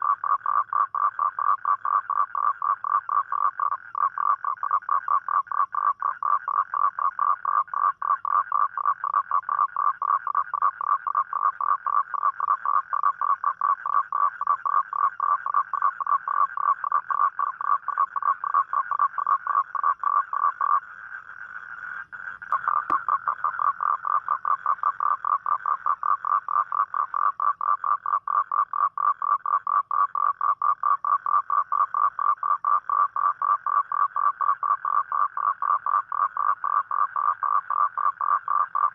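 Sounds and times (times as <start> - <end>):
toad trilling: 0.0 - 38.9.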